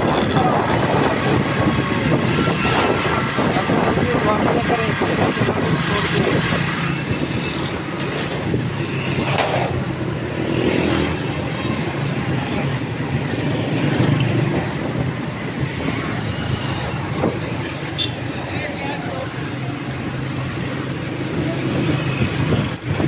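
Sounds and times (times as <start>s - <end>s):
passing traffic: 0.0s - 23.0s
vehicle engine and road noise: 0.0s - 23.0s
wind: 0.0s - 23.0s.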